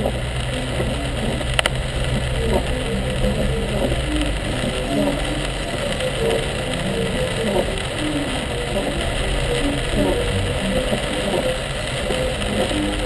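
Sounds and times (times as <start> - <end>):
heavy rain on car: 0.0 - 13.0
tyre and road noise: 0.0 - 13.0.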